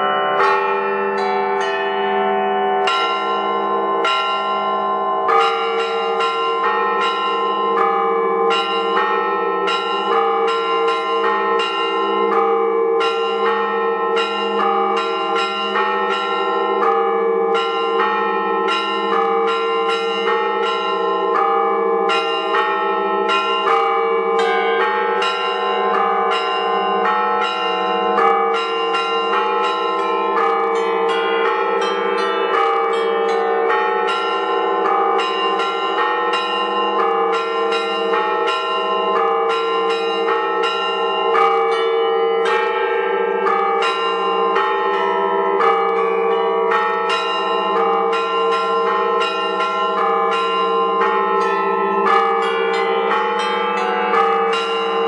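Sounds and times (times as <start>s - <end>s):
higher bells ringing quickly: 0.0s - 55.0s
lower bells ringing: 0.0s - 55.0s.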